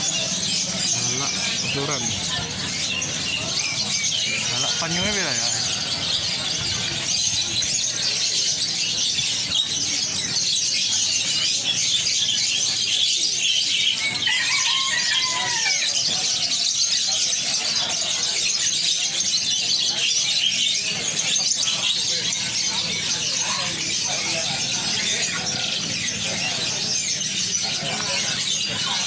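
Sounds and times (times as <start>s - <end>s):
songbirds chirping and twittering: 0.0s - 29.0s.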